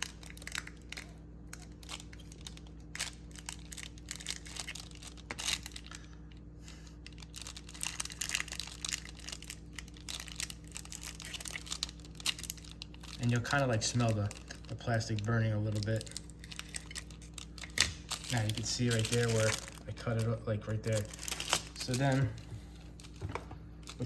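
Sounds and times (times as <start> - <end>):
faint steady hum: 0.0 - 24.0
plastic bag crinkling: 0.0 - 24.0.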